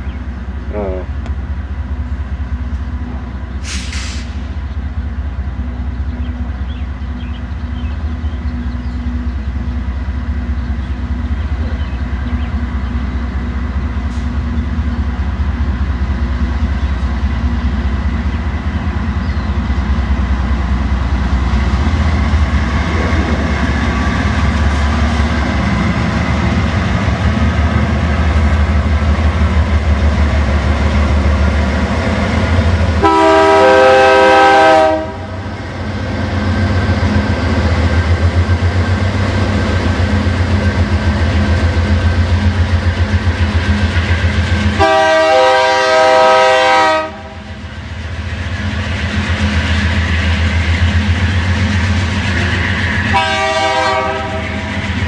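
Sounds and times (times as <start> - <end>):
diesel locomotive hum: 0.0 - 55.0.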